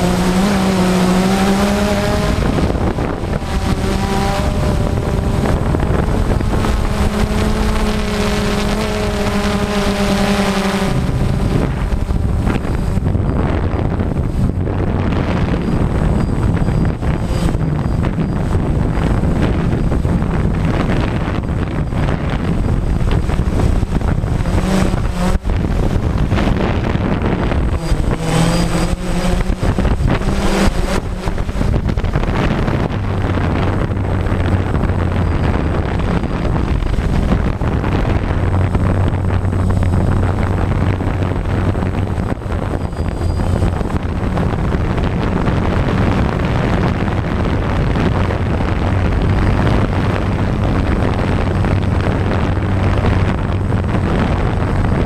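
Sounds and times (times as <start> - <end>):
drone motors and propellers: 0.0 - 55.0
wind buffeting microphone: 0.0 - 55.0.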